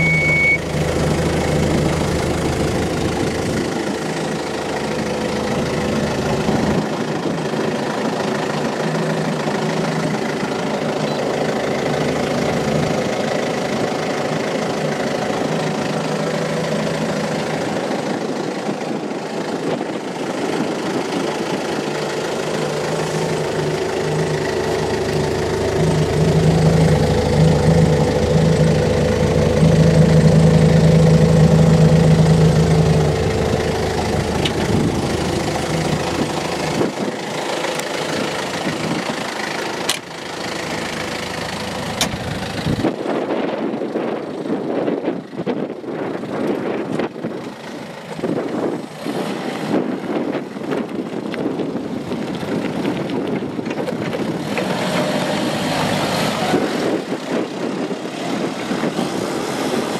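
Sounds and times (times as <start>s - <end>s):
forklift diesel engine idling: 0.0s - 59.9s.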